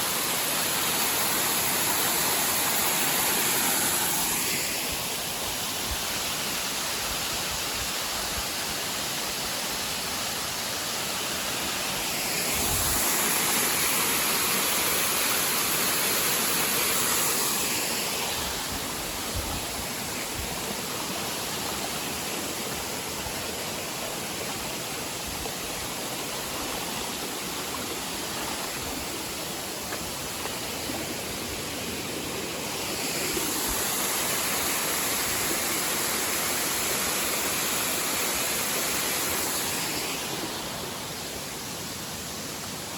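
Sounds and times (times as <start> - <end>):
waterfall roar: 0.0 - 42.9.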